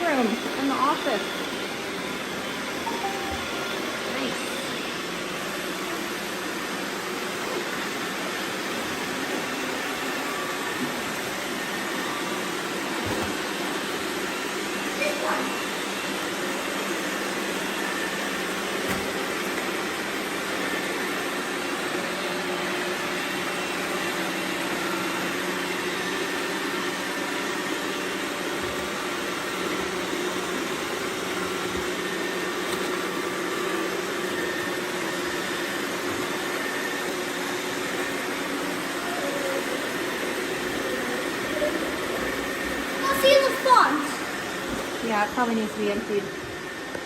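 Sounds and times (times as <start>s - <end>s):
robot vacuum cleaners whirring: 0.0s - 47.0s.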